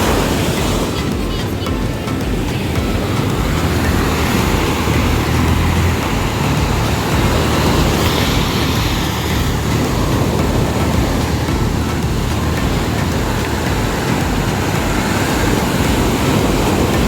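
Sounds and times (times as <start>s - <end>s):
ocean surf washing onto beach: 0.0s - 17.0s.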